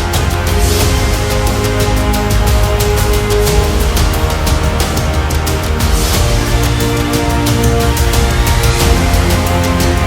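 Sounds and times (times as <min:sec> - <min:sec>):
loud driving music with beat: 0:00.0 - 0:10.0.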